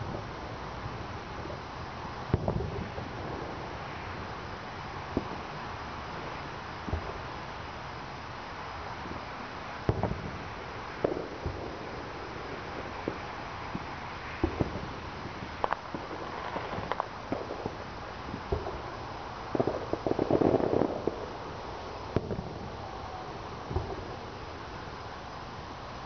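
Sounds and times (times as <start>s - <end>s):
distant fireworks pops and bangs: 0.0s - 7.8s, 8.8s - 24.6s
fireworks crackling: 0.0s - 26.0s
steady hiss: 0.0s - 26.0s.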